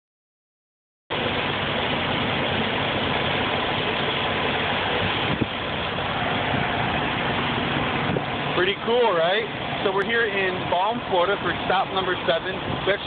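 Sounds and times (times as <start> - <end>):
truck engine idling: 1.1 - 13.0.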